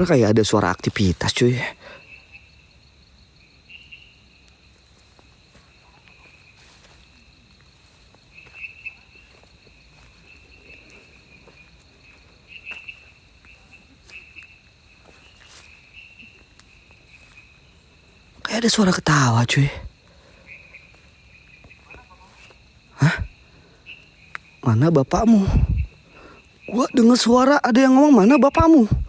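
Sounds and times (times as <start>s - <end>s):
insect chirps: 0.0s - 29.0s
insects chirring: 0.0s - 29.0s.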